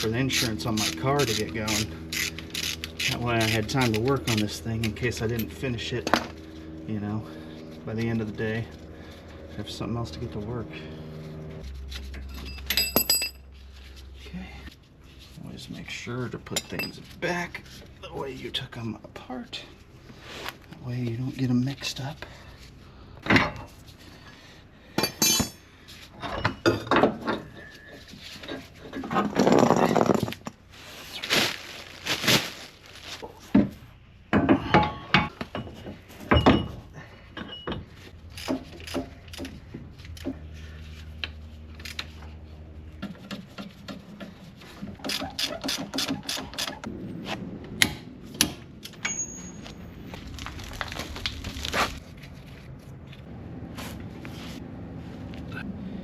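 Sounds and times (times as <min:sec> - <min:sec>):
hand tools and metal clanking: 0:00.0 - 0:31.4, 0:33.1 - 0:46.9, 0:47.8 - 0:54.4.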